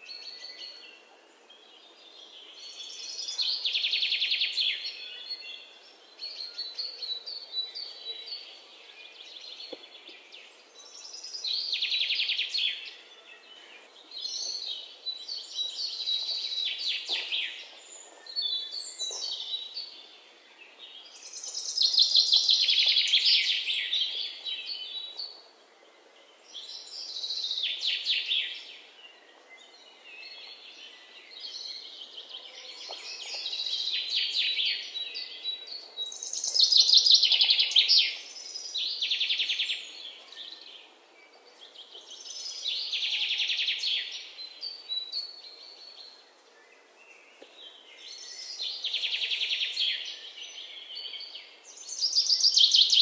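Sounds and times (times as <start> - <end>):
faint outdoor background noise: 0.0 - 53.0
songbird singing: 0.0 - 53.0.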